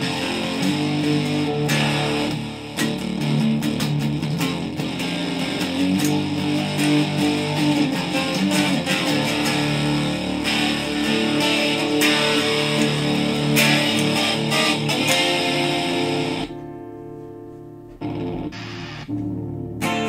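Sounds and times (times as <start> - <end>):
electric guitar playing: 0.0 - 20.0.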